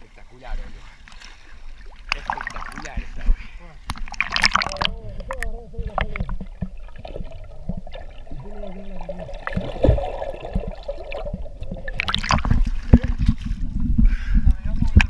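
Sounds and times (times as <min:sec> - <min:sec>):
underwater sloshing and gurgling: 0:00.0 - 0:15.0
water splashing: 0:00.0 - 0:15.0.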